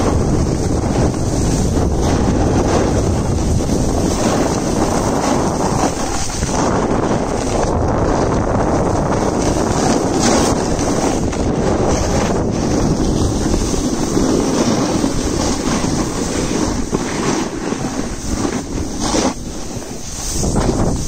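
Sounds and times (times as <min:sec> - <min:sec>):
skis sliding on snow: 0:00.0 - 0:21.0
wind on microphone: 0:00.0 - 0:21.0.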